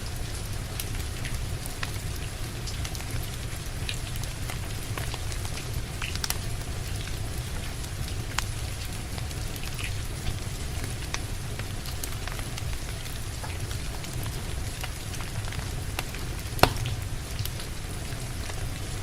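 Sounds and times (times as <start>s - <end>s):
steady rain: 0.0s - 19.0s
wood fire crackling: 0.0s - 19.0s.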